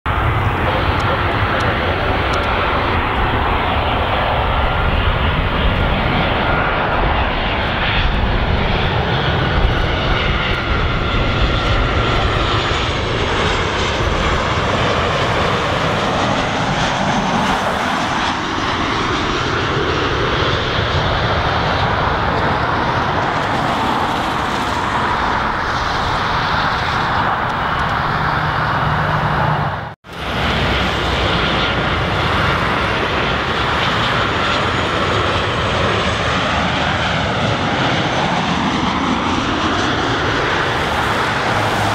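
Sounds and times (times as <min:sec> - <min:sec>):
jet engine drone: 0:00.1 - 0:41.9.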